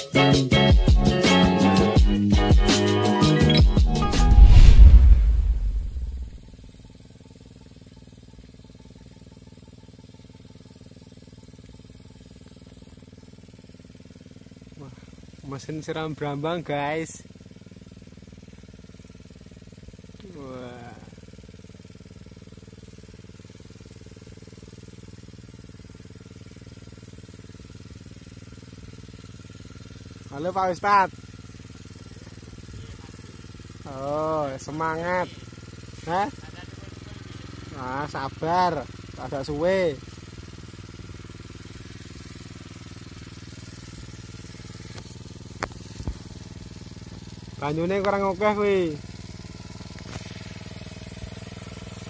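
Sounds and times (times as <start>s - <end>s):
small engine running steadily: 0.0s - 52.0s.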